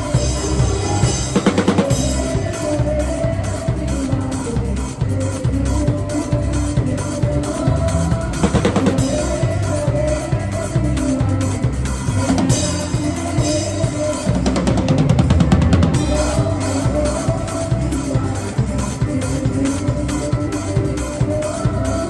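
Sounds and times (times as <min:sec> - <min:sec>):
acoustic drum kit: 0:00.0 - 0:22.0
worship band music: 0:00.0 - 0:22.0.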